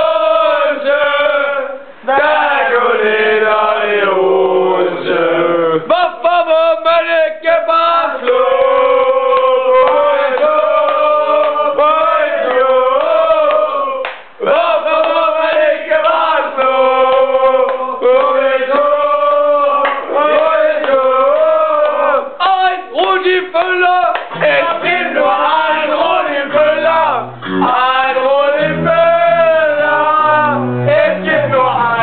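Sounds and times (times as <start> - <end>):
man singing chant-style: 0.0 - 32.0.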